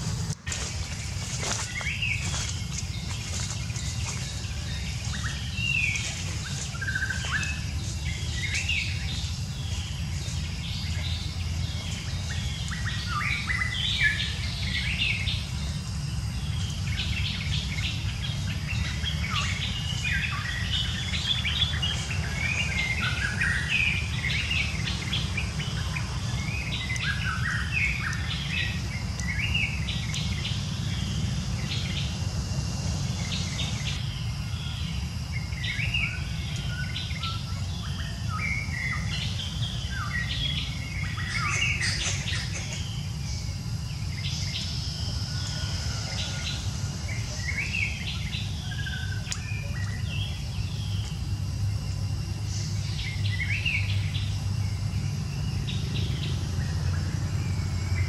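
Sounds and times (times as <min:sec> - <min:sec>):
birds chirping: 0:00.0 - 0:58.0
steady low rumble: 0:00.0 - 0:58.0.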